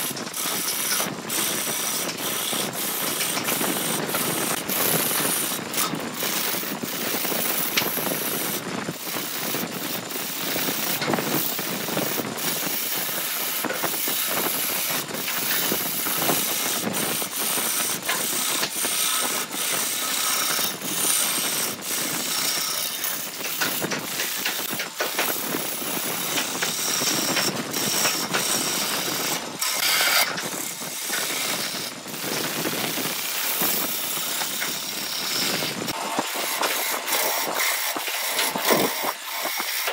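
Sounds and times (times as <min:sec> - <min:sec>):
lathe chisel shaving wood: 0:00.0 - 0:39.9.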